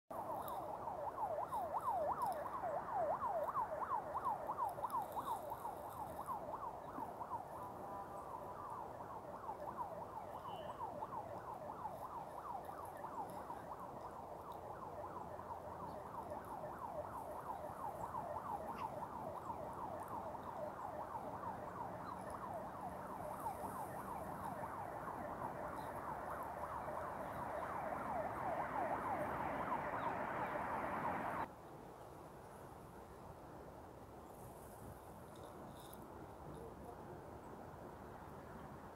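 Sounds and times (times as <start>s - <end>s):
distant siren yelping: 0.1s - 31.5s.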